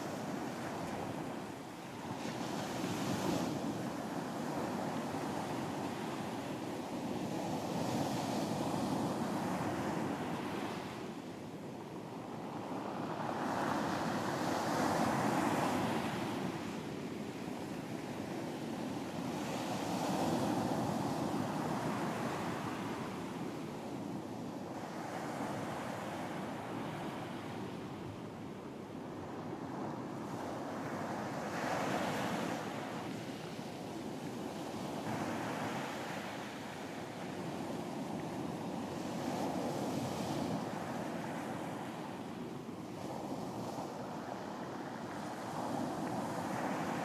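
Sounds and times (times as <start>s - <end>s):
ocean surf on beach: 0.0s - 47.0s.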